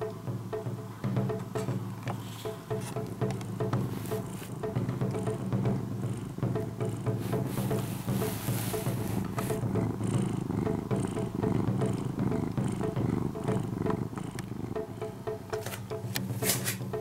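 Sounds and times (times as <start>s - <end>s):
cat purring: 0.5s - 17.0s.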